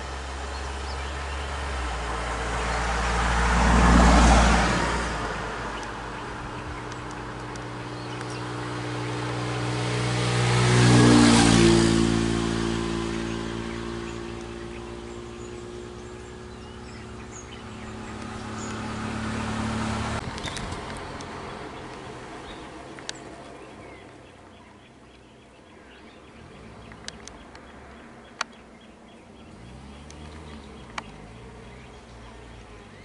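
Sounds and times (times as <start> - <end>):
second vehicle engine: 0.0 - 33.0
vehicle engine driving past: 0.0 - 33.0.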